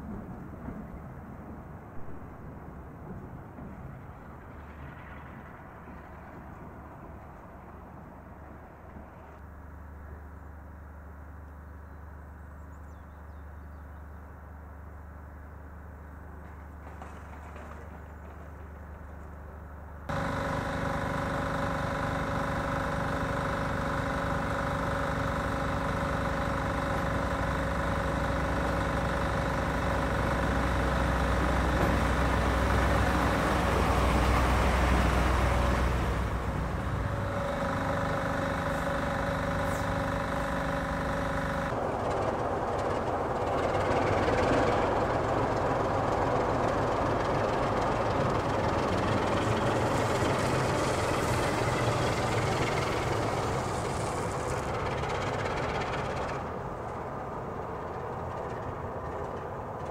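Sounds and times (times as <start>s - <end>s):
diesel engine droning: 0.0s - 59.9s
diesel locomotive idling: 0.0s - 59.9s.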